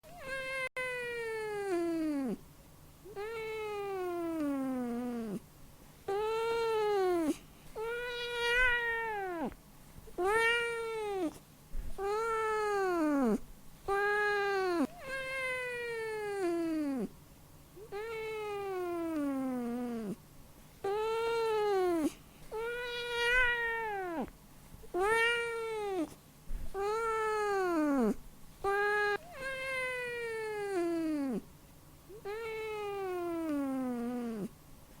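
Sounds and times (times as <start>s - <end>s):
cat meowing: 0.1s - 2.4s, 3.1s - 5.4s, 6.1s - 9.6s, 10.2s - 11.4s, 12.0s - 17.1s, 17.8s - 20.2s, 20.9s - 24.3s, 24.9s - 26.1s, 26.7s - 31.4s, 32.1s - 34.5s.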